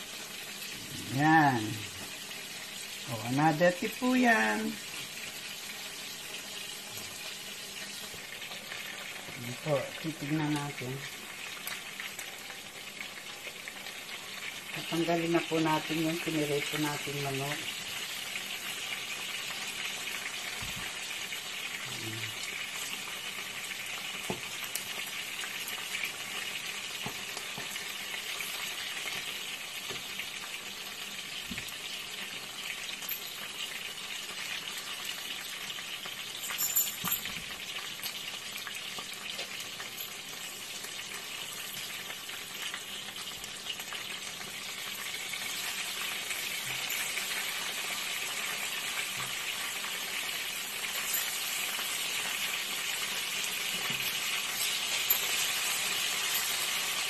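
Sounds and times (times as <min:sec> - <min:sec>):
chicken sizzling in oil: 0:00.0 - 0:36.6, 0:37.2 - 0:57.0.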